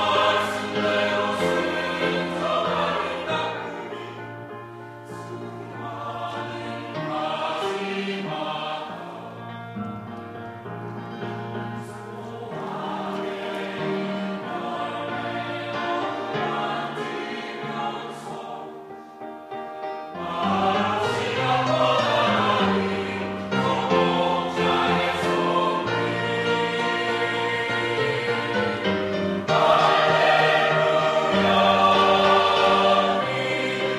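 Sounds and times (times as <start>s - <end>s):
mixed choir singing: 0.0s - 9.8s, 11.8s - 19.2s, 20.0s - 33.9s.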